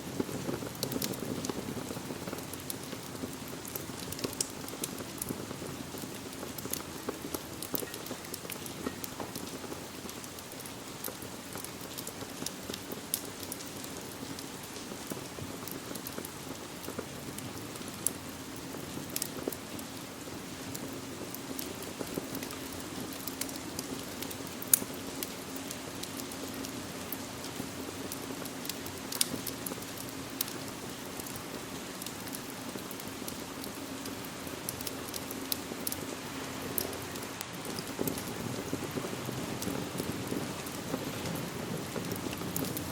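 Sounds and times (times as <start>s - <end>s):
steady rain: 0.0s - 42.9s
wood fire crackling: 0.0s - 42.9s.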